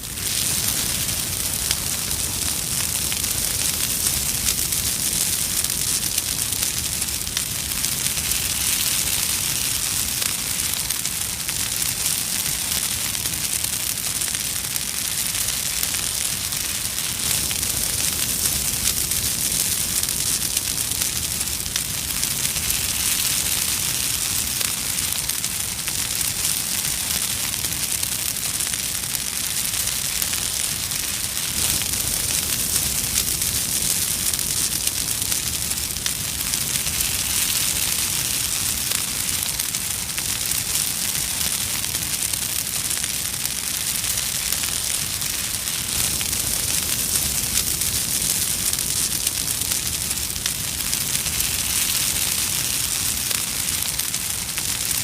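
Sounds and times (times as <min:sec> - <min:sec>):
flames crackling and hissing: 0:00.0 - 0:55.0.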